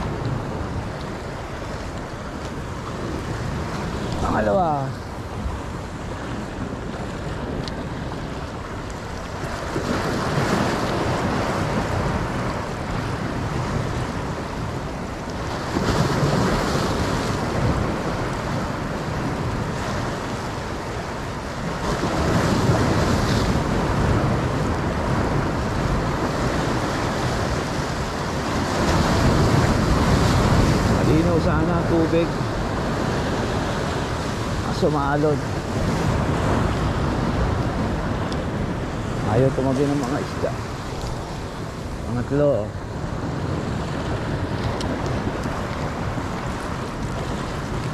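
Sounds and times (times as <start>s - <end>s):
sea waves breaking on rocks: 0.0s - 47.9s.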